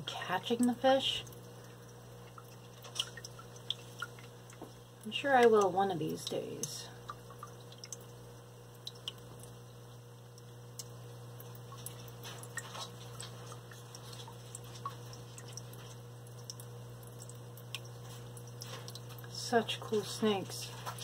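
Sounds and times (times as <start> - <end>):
faint ticks and water drips: 0.0 - 21.0
water pump electrical hum: 0.0 - 21.0.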